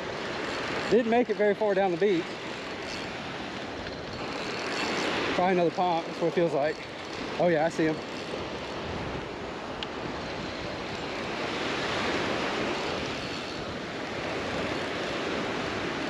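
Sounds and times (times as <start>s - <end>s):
wind buffeting microphone: 1.8s - 16.0s.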